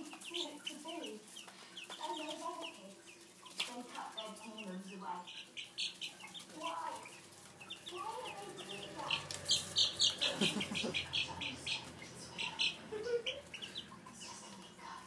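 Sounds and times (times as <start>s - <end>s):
baby chicks peeping: 0.0s - 15.0s.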